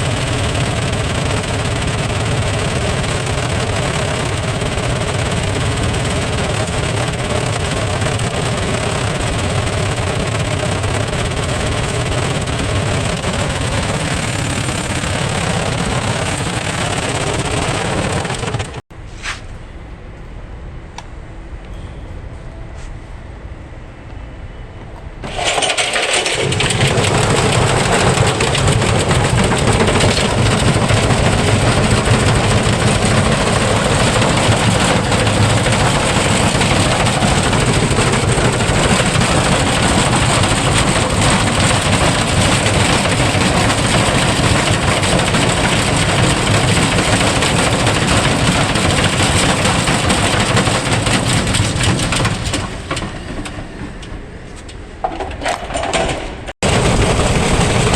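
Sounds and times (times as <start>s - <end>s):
washing machine spinning and rattling: 0.0s - 18.8s, 25.2s - 57.9s.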